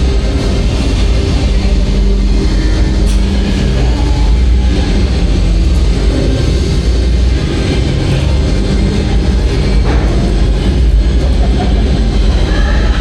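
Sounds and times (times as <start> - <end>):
ride music: 0.0 - 13.0
roller coaster train rumble: 0.0 - 13.0.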